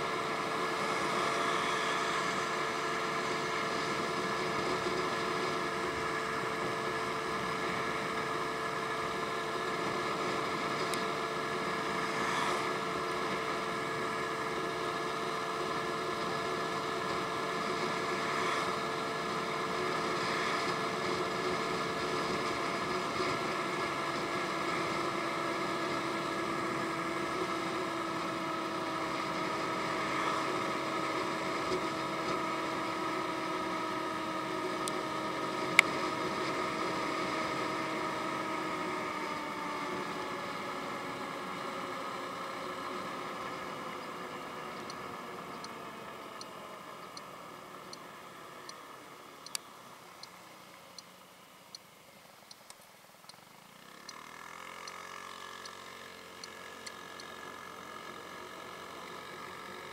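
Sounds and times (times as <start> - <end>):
road and wind rush: 0.0 - 50.8.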